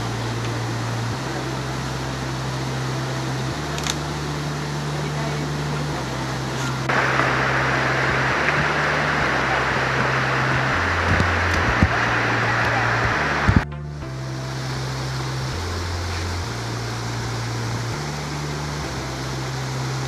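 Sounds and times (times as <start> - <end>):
background music: 0.0 - 20.0
river water rushing over rocks: 0.0 - 20.0.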